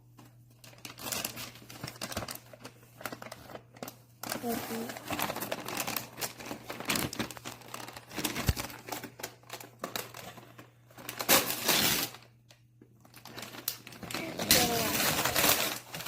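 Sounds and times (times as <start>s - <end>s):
gift wrapping crinkling: 0.1s - 16.0s.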